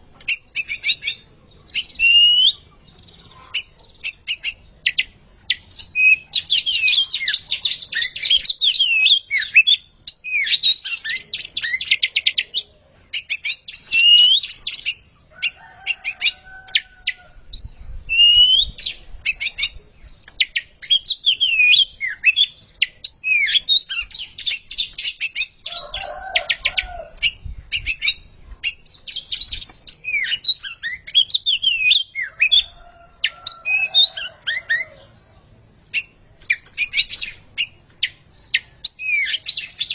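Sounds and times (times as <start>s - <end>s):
birds singing whistles and trills: 0.0s - 39.9s.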